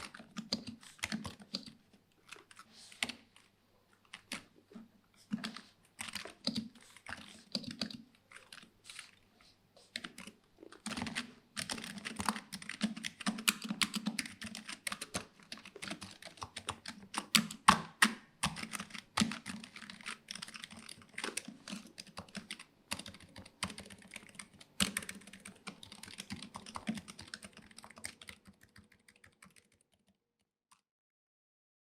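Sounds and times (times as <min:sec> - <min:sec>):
keyboard typing: 0:00.0 - 0:09.2, 0:09.8 - 0:30.1.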